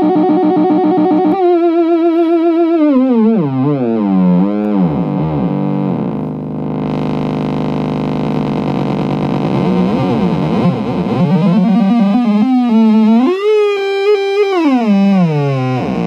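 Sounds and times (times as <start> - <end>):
sliding electronic synth tone: 0.0 - 6.3, 8.2 - 16.0.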